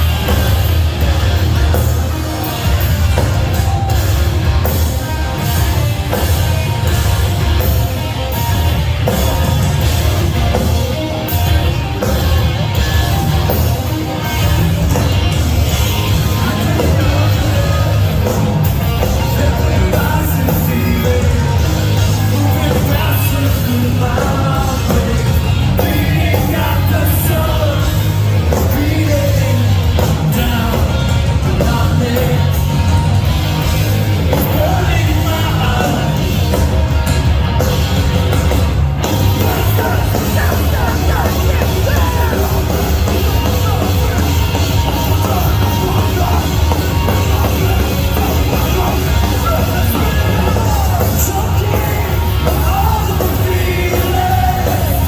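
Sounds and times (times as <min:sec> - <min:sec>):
rock band playing live: 0:00.0 - 0:55.0
yelled and sung vocals: 0:00.0 - 0:55.0.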